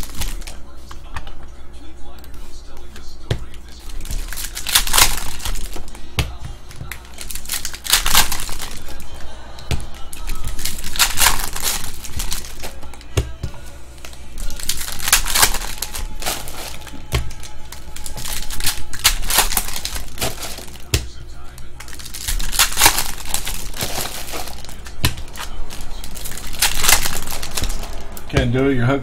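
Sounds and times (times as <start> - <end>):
foil wrappers tearing and crinkling: 0.0 - 0.7, 2.2 - 13.1, 13.9 - 28.4
background music: 0.0 - 29.0.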